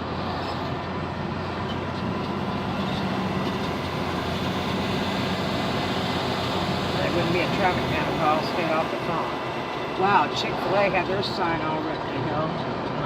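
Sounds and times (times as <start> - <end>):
car engine and tyres hum: 0.0 - 13.0.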